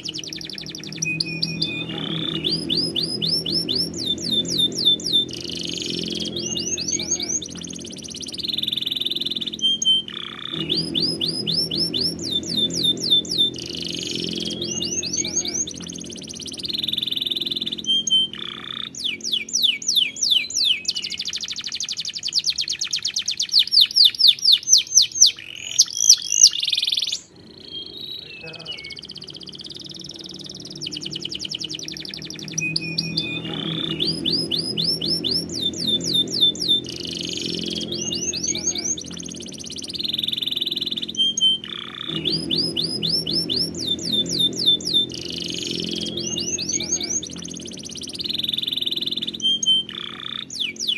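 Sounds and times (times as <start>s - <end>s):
soft background music: 0.0s - 20.6s, 29.3s - 50.9s
canary singing trills: 0.0s - 50.9s.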